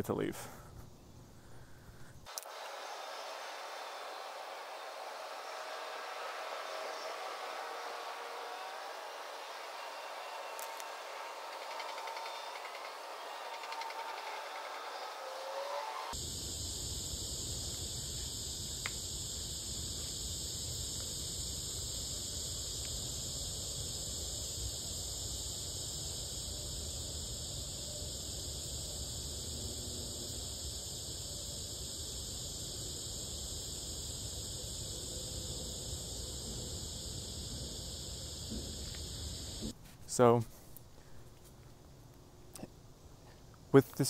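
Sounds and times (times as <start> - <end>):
high-pitched insect chorus: 0.2 - 40.3.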